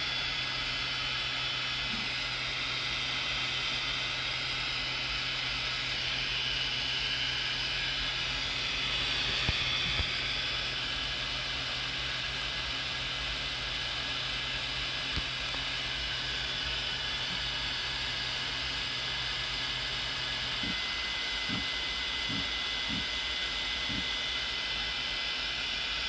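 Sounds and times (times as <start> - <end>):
cooling fans whirring: 0.0 - 26.0.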